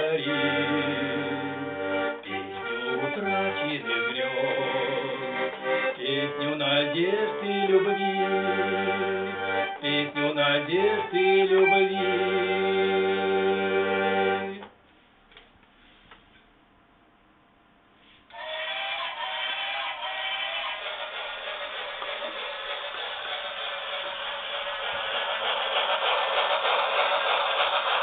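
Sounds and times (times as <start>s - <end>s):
accordion playing chords: 0.0s - 14.7s, 18.3s - 28.0s.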